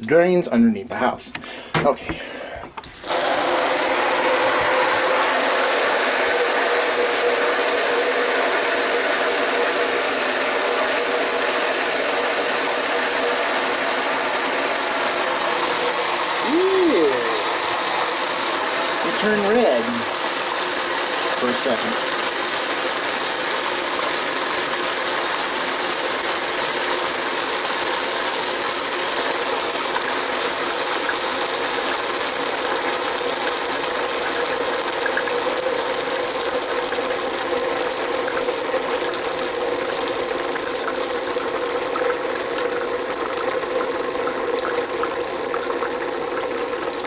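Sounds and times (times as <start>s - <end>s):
water running from a tap: 2.8s - 47.0s.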